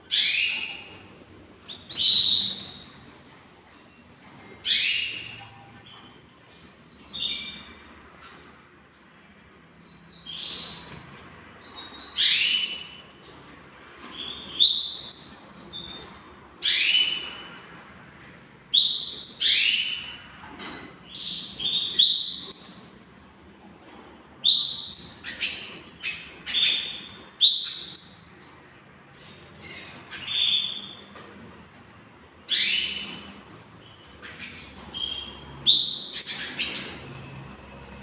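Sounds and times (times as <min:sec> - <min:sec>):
canaries calling: 0:00.0 - 0:38.0.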